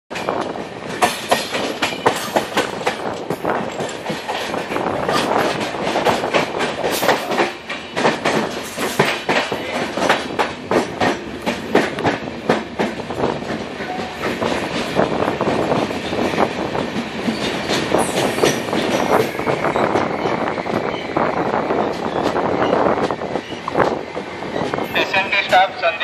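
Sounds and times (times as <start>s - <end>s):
train wheels clacking over rail joints: 0.1s - 21.0s.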